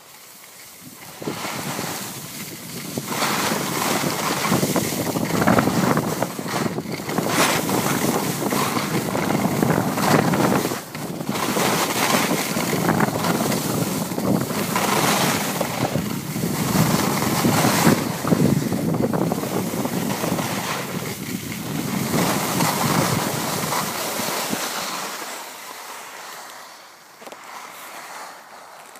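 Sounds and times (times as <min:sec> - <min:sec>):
skis scraping over packed snow: 0:00.0 - 0:28.9
wind rushing over microphone: 0:00.8 - 0:25.2.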